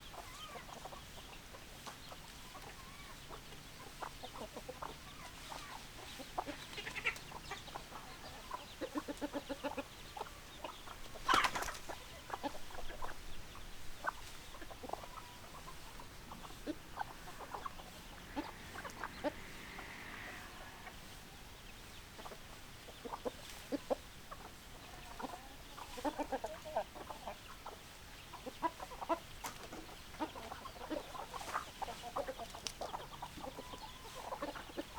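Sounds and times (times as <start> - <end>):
hens clucking: 0.0 - 34.9.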